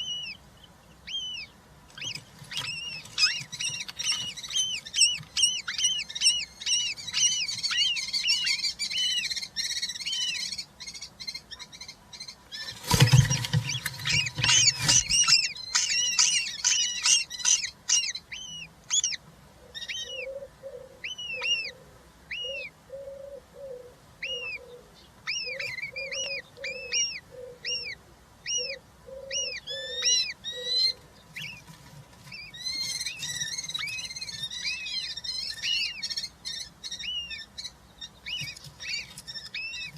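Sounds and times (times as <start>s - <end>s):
chicks chirping: 0.0s - 20.4s, 24.2s - 39.9s.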